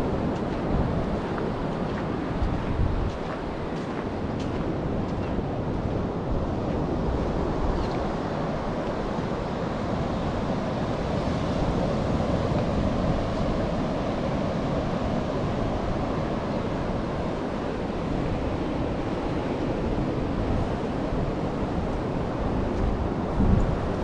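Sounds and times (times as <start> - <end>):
wind buffeting microphone: 0.0 - 10.2, 10.8 - 24.0
ocean surf: 0.0 - 24.0.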